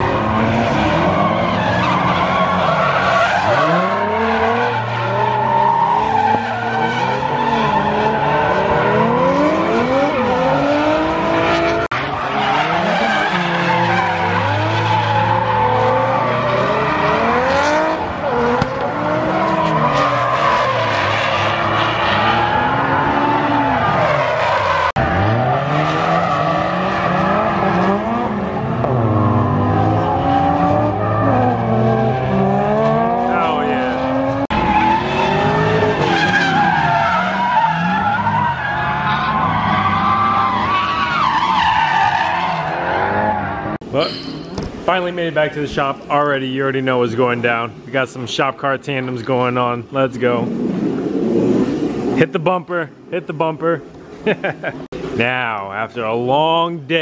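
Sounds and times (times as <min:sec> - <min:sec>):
car engines revving: 0:00.0 - 0:57.0
tyres skidding and squealing: 0:00.0 - 0:57.0.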